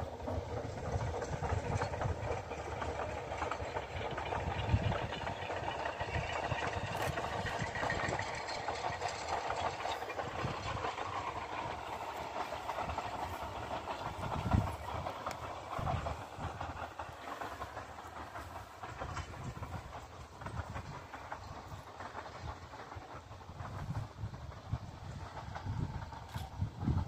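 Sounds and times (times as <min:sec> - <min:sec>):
distant steam train running: 0:00.0 - 0:27.0.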